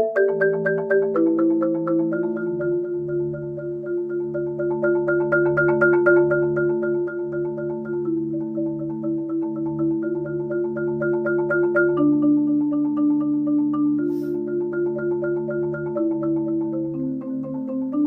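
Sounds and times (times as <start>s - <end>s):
marimba rolls: 0.0s - 18.0s.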